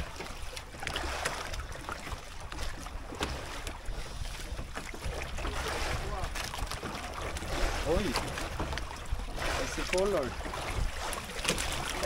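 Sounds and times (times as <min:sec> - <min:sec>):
water noise: 0:00.0 - 0:12.0
wind: 0:00.0 - 0:12.0.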